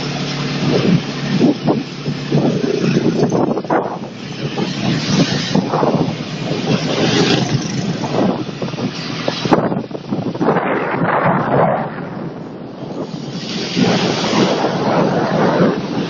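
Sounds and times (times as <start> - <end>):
moving vehicle noise: 0.0 - 16.0
wind buffeting microphone: 0.0 - 16.0.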